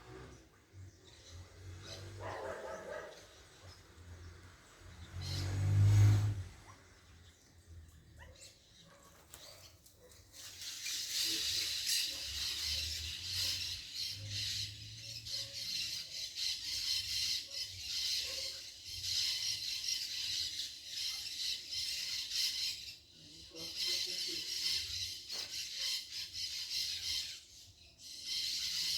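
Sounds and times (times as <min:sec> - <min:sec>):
birds chattering: 0:00.0 - 0:05.6, 0:06.6 - 0:28.9.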